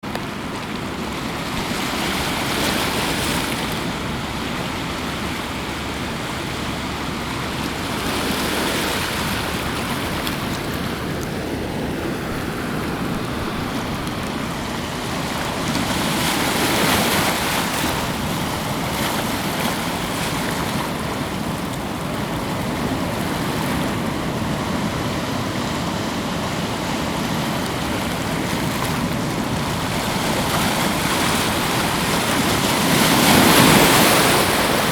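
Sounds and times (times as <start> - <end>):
ocean waves washing: 0.0 - 34.9
wave breaking: 0.3 - 34.9.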